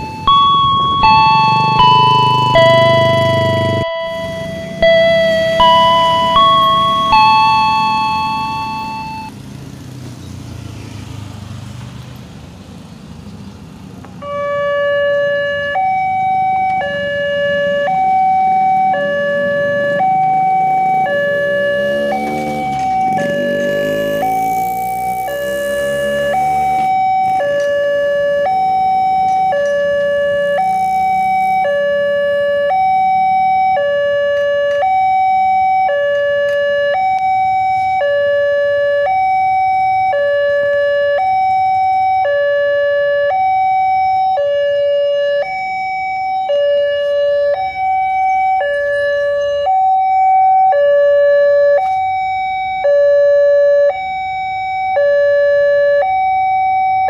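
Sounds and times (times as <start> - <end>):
level crossing two-tone alarm: 0.0 - 9.3, 14.2 - 57.0.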